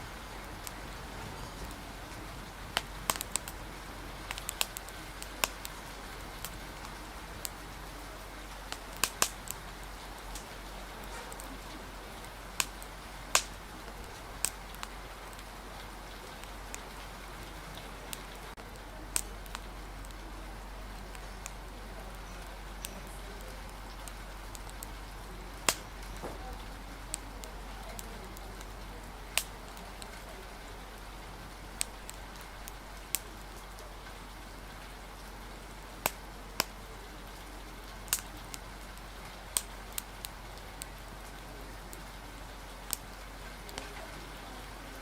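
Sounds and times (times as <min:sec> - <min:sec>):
rain hissing: 0:00.0 - 0:45.0
wood fire crackling: 0:00.0 - 0:45.0.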